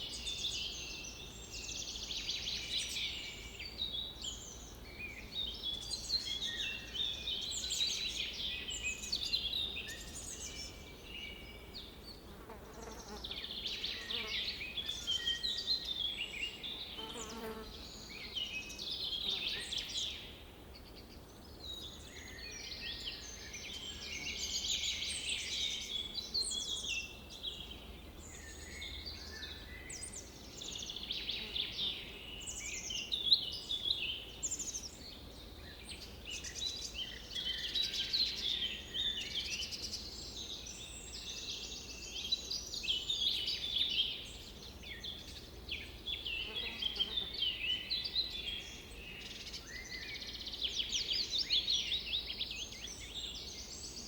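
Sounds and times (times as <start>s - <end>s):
birds singing and chirping: 0.0s - 54.0s
faint low background noise: 0.0s - 54.0s.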